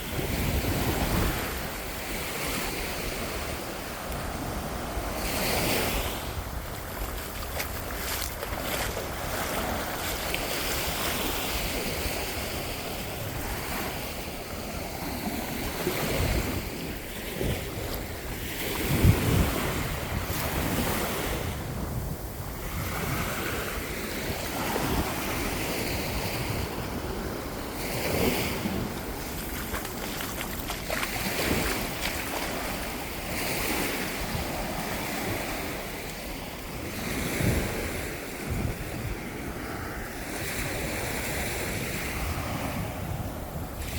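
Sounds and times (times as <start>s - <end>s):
ocean waves washing onto beach: 0.0s - 43.9s
wind buffeting microphone: 0.0s - 43.9s.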